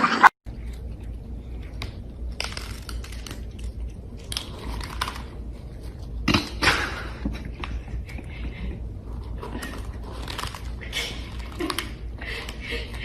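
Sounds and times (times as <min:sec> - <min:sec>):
crunching noises: 0:00.5 - 0:13.0.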